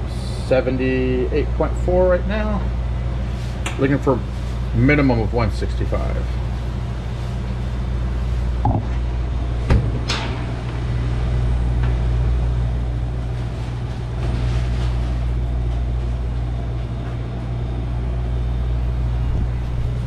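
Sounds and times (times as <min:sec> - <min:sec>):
kitchen equipment humming: 0:00.0 - 0:20.0.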